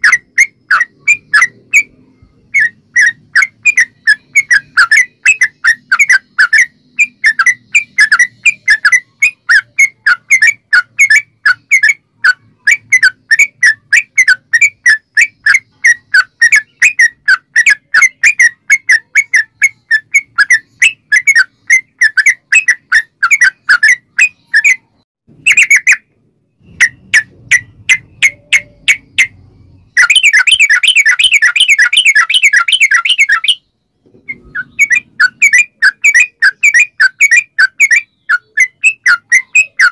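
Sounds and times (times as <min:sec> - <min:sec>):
bulbul bubbly chirping song: 0:00.0 - 0:39.9.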